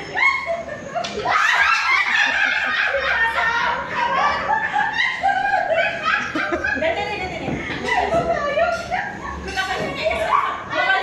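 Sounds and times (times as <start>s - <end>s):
women laughing: 0.0s - 10.4s.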